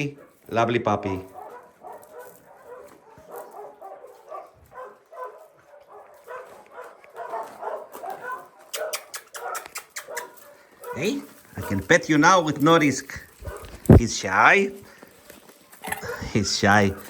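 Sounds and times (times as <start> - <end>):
dogs barking and yipping: 0.0 - 14.0, 14.9 - 17.0.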